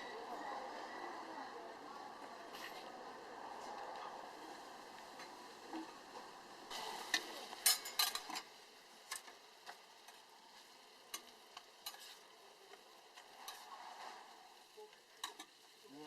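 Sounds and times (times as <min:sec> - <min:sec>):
meat sizzling on a grill: 0:00.1 - 0:16.0.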